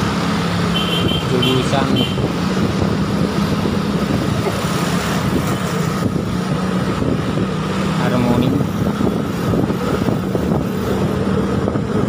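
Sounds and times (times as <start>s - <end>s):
road and air noise: 0.0s - 12.0s.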